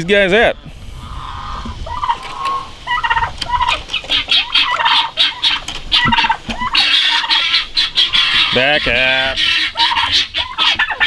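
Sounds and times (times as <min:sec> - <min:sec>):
turkeys and chickens calling: 0:00.0 - 0:11.0.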